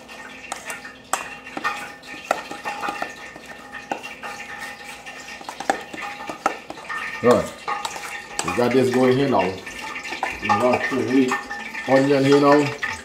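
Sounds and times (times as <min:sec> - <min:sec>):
metal spoon stirring paste in bowl: 0:00.0 - 0:13.0
spoon clinking and scraping bowl: 0:00.0 - 0:13.0.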